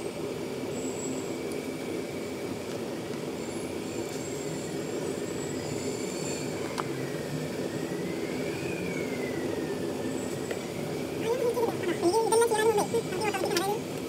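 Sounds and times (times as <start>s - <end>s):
droning machinery hum: 0.0s - 14.0s
faint high whine: 0.0s - 14.0s.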